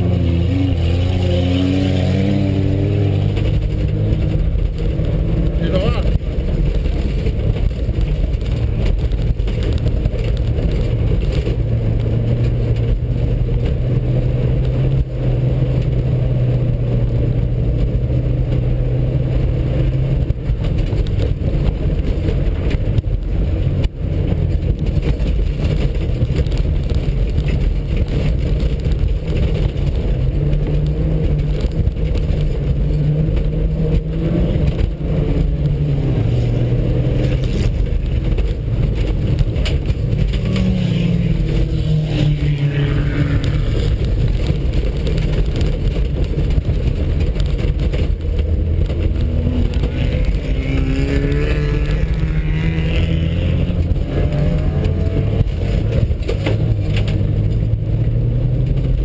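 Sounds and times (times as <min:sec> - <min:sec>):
car engine pulling hard: 0:00.0 - 0:59.0.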